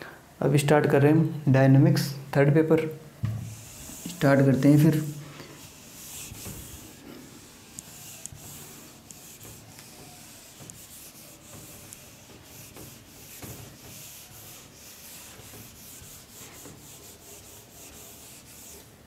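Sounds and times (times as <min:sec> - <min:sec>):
eraser rubbing on whiteboard: 0:03.4 - 0:19.0.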